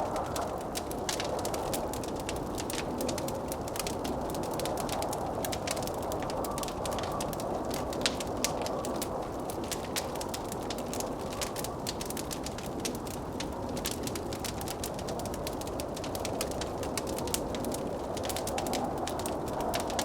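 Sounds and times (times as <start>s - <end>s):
blizzard wind: 0.0s - 20.0s
wood fire crackling and popping: 0.0s - 20.0s.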